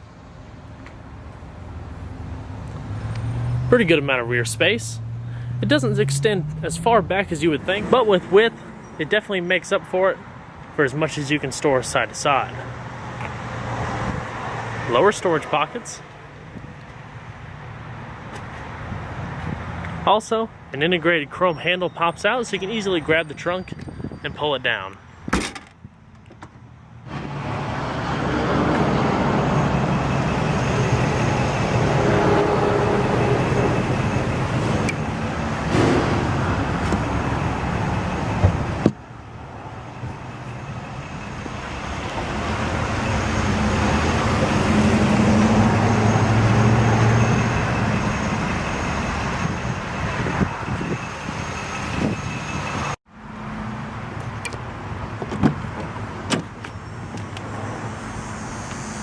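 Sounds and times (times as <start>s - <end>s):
passing vehicles rushing: 0.0s - 59.0s.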